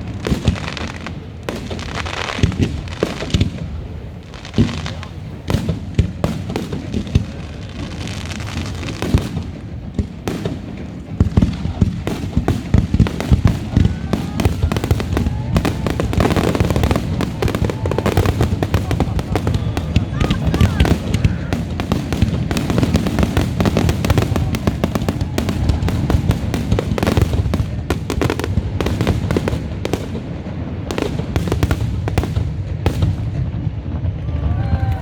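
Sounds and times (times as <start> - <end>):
fireworks banging: 0.0 - 35.0.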